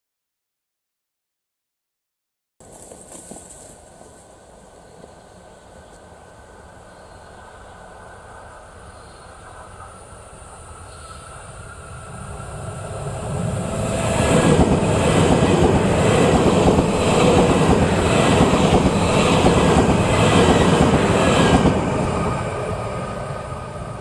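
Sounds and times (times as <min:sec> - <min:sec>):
train wheels on rail: 0:02.6 - 0:24.0.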